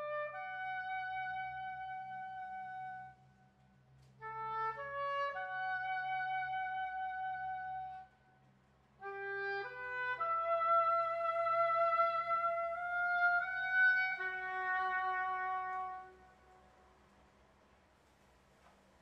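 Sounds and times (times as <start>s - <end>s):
wind instrument playing slow phrases: 0.0s - 17.1s.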